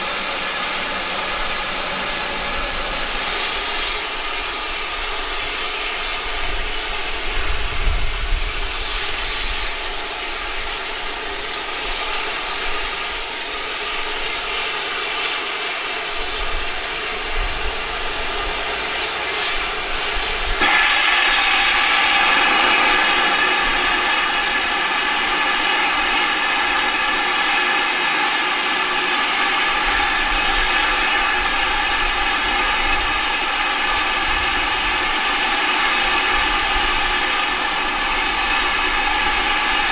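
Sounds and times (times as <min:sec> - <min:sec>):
loud high steam hiss: 0:00.0 - 0:39.9
steam locomotive hissing: 0:00.0 - 0:39.9.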